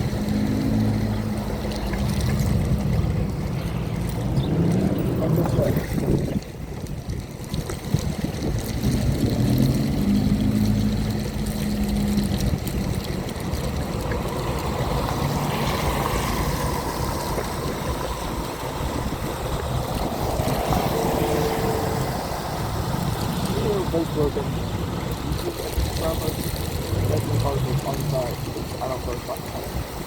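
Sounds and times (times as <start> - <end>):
wet road noise: 0.0 - 30.0
wind buffeting microphone: 0.0 - 30.0.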